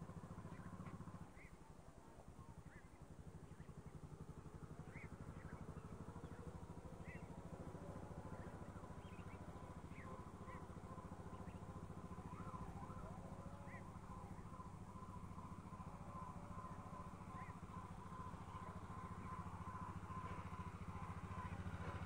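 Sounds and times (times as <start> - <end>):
faint engine running: 0.0 - 22.0.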